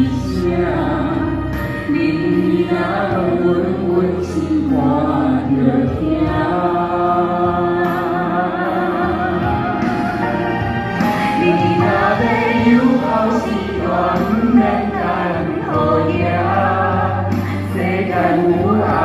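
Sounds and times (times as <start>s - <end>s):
instrumental accompaniment: 0.0s - 19.0s
voices singing slow song: 0.0s - 19.0s.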